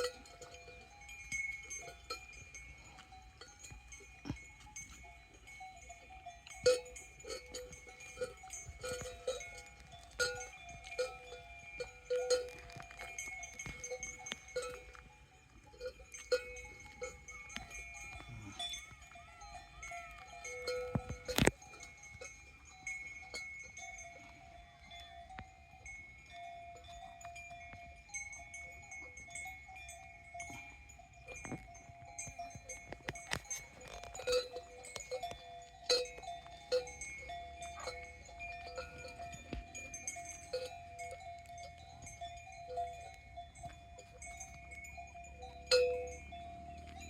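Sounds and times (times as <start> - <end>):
cow bells clanking: 0.0 - 47.0.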